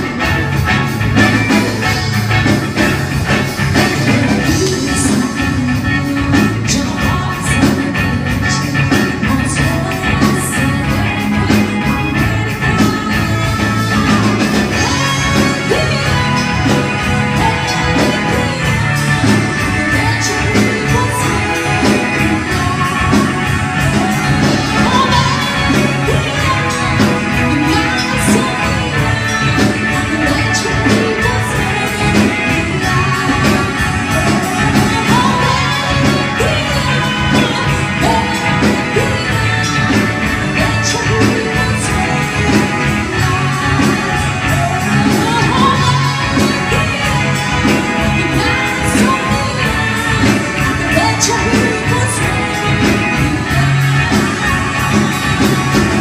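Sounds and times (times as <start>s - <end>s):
amplified band music: 0.0s - 56.0s
woman singing into microphone: 3.6s - 56.0s.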